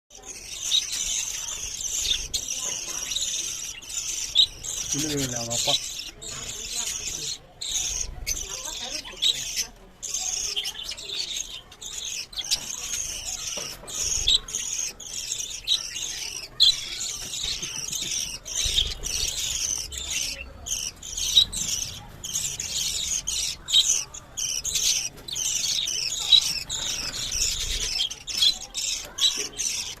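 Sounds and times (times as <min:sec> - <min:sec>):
budgerigars chirping and chattering: 0:00.1 - 0:30.0.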